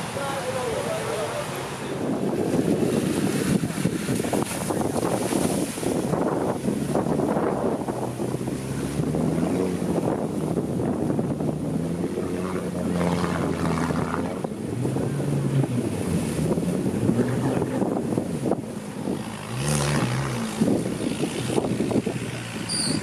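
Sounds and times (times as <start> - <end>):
engine running at low revs: 0.0 - 23.0
rushing water wash: 0.0 - 23.0
wind buffeting microphone: 0.0 - 23.0.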